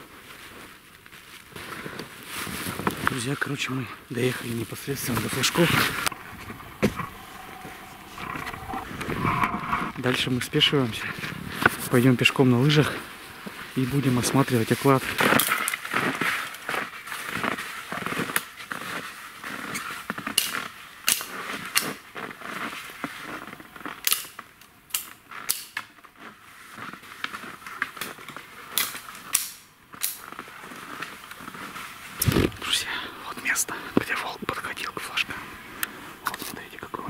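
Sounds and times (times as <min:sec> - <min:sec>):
skis and footsteps crunching snow: 0:00.0 - 0:34.0, 0:35.3 - 0:36.5.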